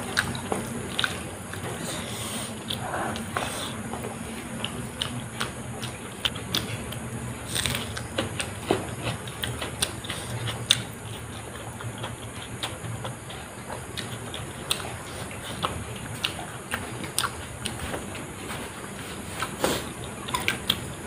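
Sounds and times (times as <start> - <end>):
person chewing with mouth smacks: 0.0 - 21.0.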